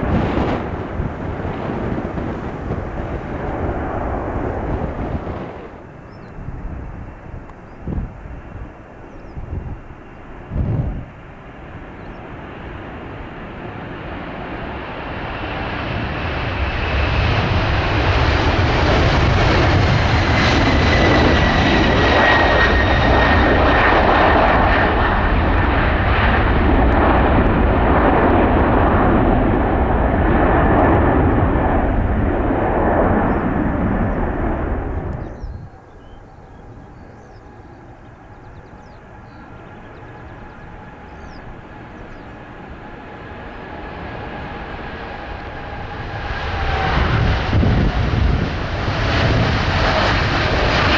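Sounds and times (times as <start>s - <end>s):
jet engine roar and whine: 0.0s - 50.9s.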